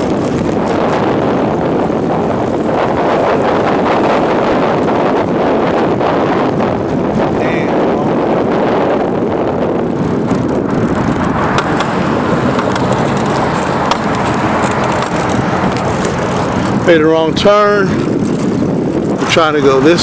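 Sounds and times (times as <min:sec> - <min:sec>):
tyre and road noise: 0:00.0 - 0:20.0
wind rushing over microphone: 0:00.0 - 0:20.0.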